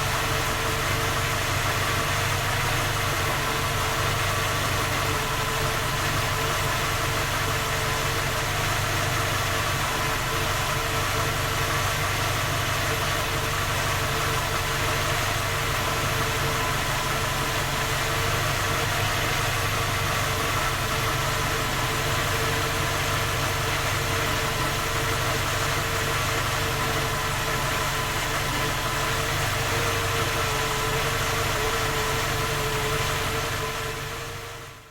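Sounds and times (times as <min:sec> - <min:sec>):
car engine idling with knock: 0:00.0 - 0:34.9.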